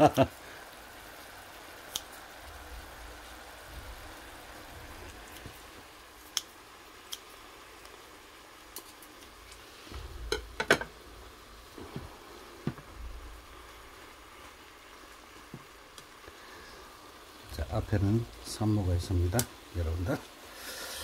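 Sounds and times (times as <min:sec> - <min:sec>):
ribs simmering hiss: 0:00.0 - 0:21.0.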